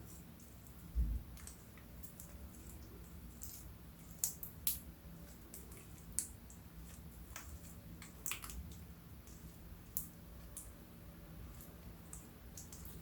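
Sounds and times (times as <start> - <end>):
slime squishing: 0.0 - 13.0.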